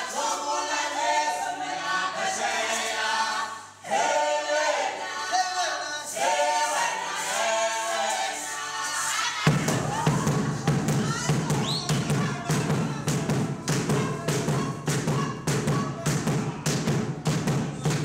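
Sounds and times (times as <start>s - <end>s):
group singing a cappella: 0.0s - 18.0s.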